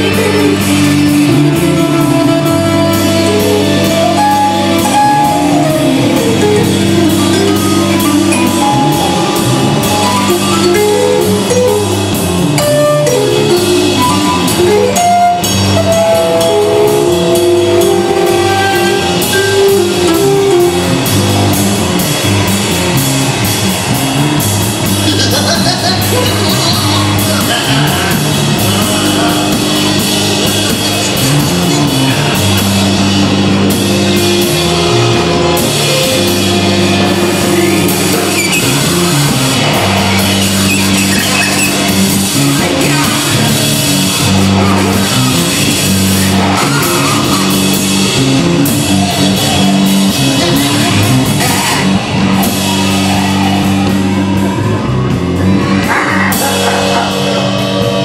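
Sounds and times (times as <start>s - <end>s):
experimental rock jam: 0.0s - 58.0s
low bass notes: 0.0s - 58.0s.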